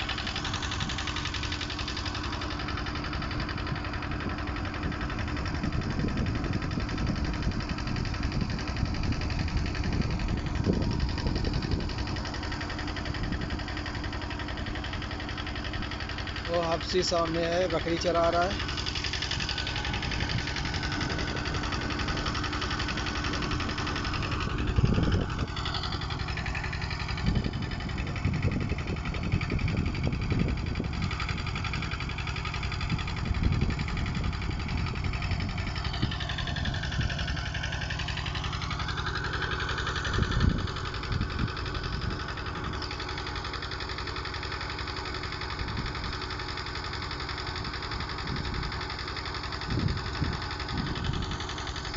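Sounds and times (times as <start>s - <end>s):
machine engine humming: 0.0s - 51.9s.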